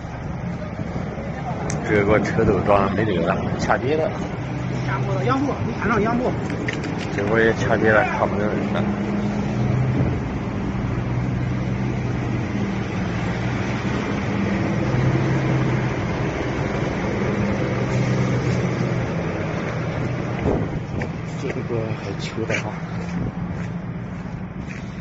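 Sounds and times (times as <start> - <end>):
roadway noise: 0.0 - 25.0
truck engines running: 0.0 - 25.0.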